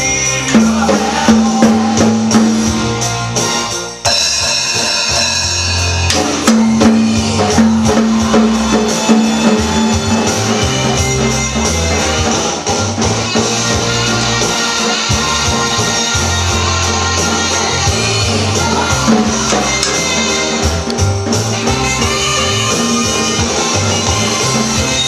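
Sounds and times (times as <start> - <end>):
rock song with horns: 0.0 - 25.0
toy drum kit banging: 0.0 - 25.0.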